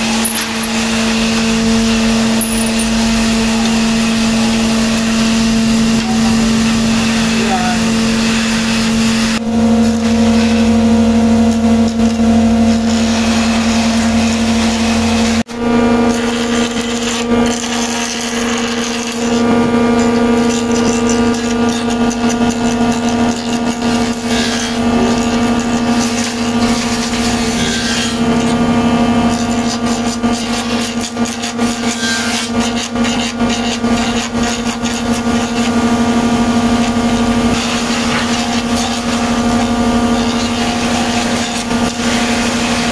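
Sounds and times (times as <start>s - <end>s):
blades shaving wood: 0.0s - 42.9s
jointer motor hum: 0.0s - 42.9s.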